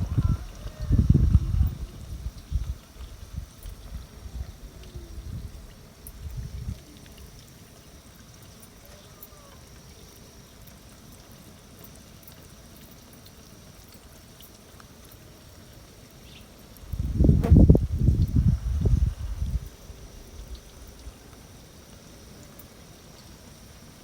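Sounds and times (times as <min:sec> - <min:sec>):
water trickling: 0:00.0 - 0:24.0.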